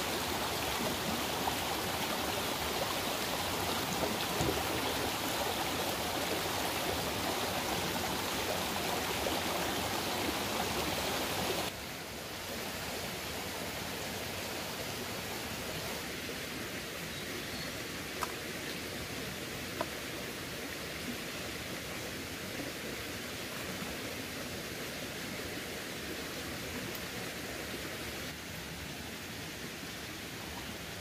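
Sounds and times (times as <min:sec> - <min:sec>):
stream running over stones: 0:00.0 - 0:31.0.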